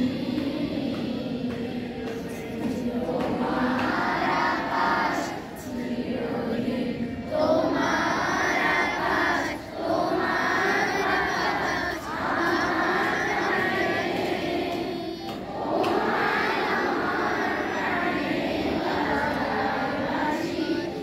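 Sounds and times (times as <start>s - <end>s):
girls singing in unison: 0.0s - 21.0s.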